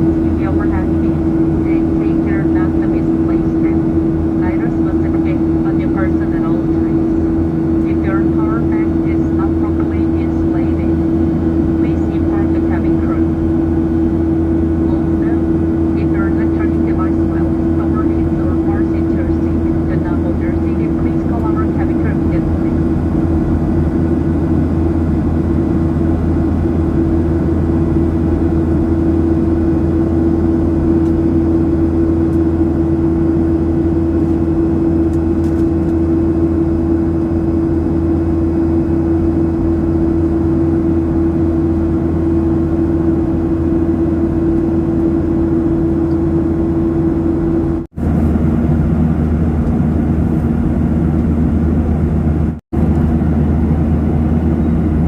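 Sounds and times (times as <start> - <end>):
jet engine rumble in cabin: 0.0 - 55.0.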